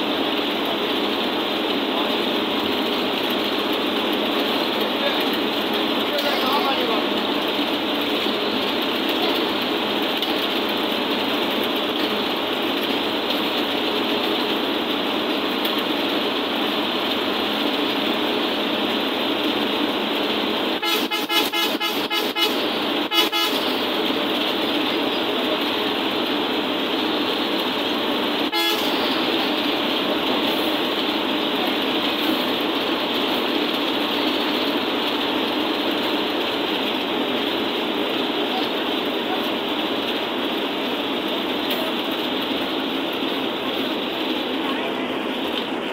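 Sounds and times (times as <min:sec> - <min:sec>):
bus road and engine noise: 0:00.0 - 0:45.9.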